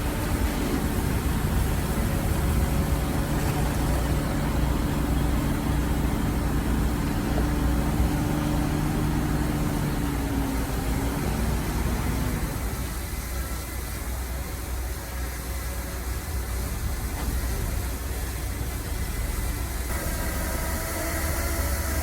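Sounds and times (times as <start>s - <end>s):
heavy diesel engine humming: 0.0s - 22.0s.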